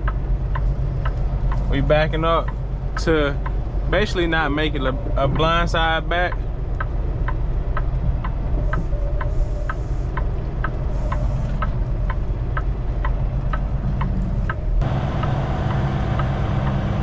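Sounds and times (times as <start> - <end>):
signal flasher relay ticking: 0.0 - 16.8
diesel truck engine running: 0.0 - 17.0.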